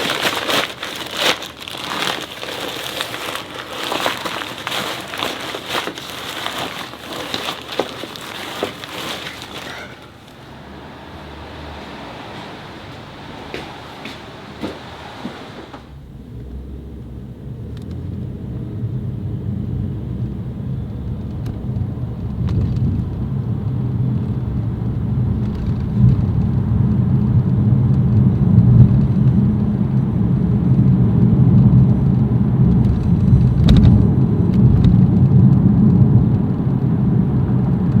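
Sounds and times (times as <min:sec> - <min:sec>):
car engine and tyre rumble: 0:00.0 - 0:38.0.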